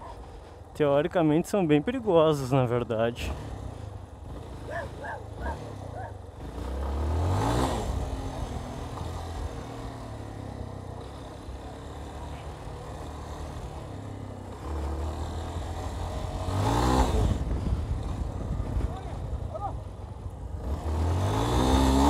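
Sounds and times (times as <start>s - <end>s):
motorcycle engine accelerating: 1.6s - 22.0s.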